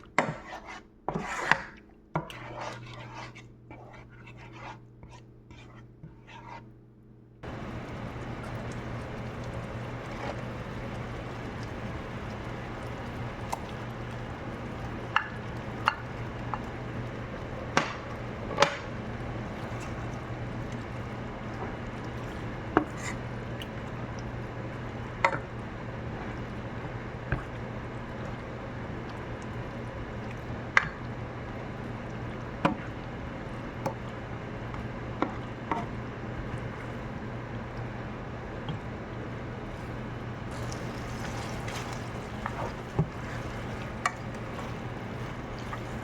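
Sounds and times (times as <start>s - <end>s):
steady low hum: 2.2s - 46.0s.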